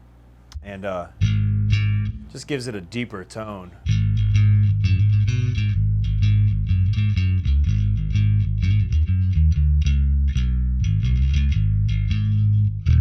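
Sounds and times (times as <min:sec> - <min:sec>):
electric bass plucked notes: 0:00.5 - 0:13.0.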